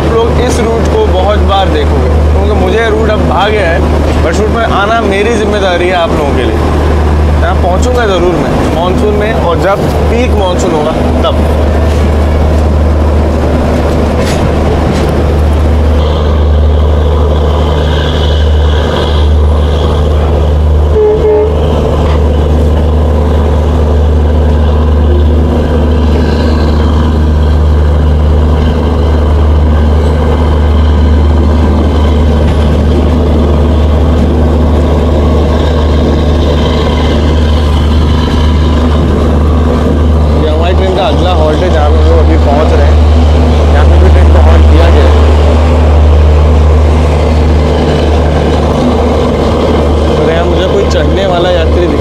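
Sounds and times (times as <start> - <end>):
train low rumble: 0.0 - 52.0.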